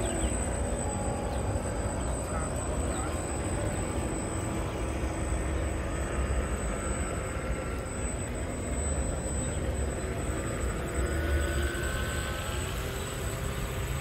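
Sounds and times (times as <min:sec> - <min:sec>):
model boat motors whining: 0:00.0 - 0:14.0.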